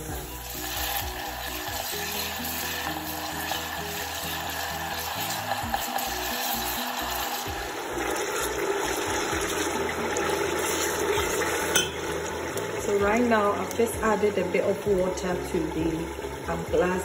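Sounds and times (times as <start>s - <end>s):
utensil stirring in pot: 0.0s - 14.4s
background music: 0.0s - 17.0s
onions sizzling in hot oil: 0.0s - 17.0s.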